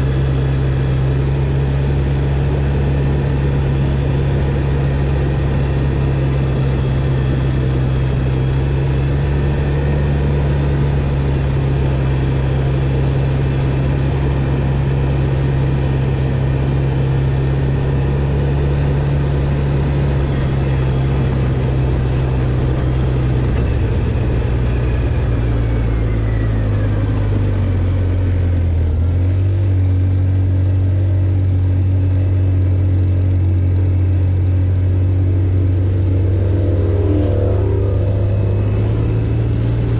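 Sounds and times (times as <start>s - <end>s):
atv engine running under load: 0.0s - 39.9s.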